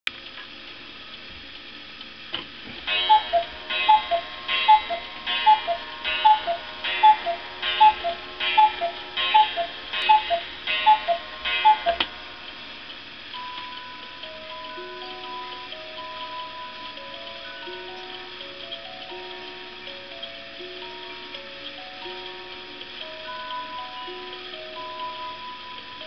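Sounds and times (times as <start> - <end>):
clock mechanism click: 2.3 - 26.0
cuckoo clock calling: 2.9 - 26.0
music box tune: 2.9 - 26.0.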